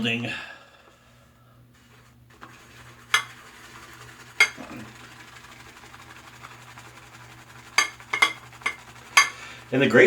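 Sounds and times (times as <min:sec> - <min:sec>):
shaving brush swirling lather: 0:01.8 - 0:10.0.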